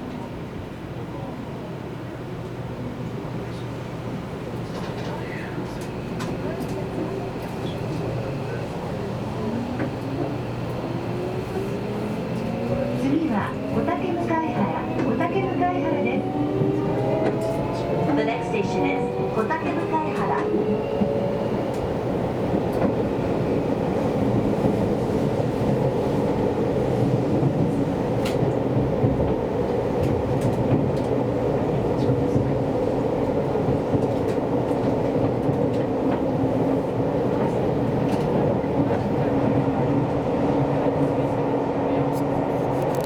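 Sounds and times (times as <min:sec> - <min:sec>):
train wheels rumbling on rail: 0:02.0 - 0:43.0.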